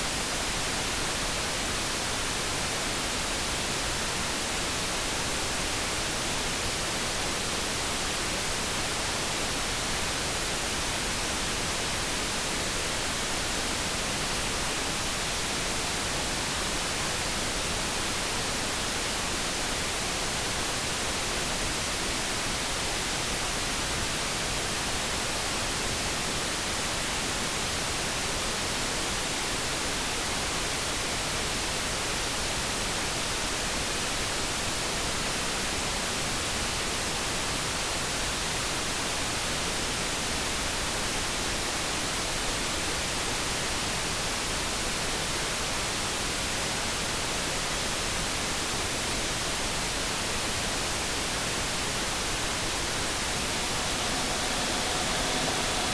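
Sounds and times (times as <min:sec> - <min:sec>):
steady brown noise hiss: 0:00.0 - 0:55.9.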